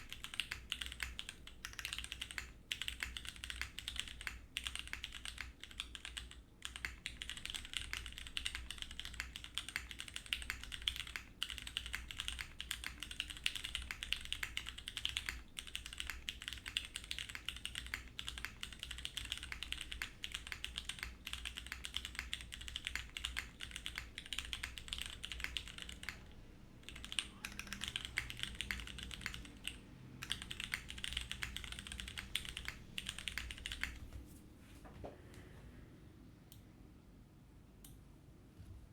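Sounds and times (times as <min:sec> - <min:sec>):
fast mechanical keyboard typing: 0:00.0 - 0:34.1.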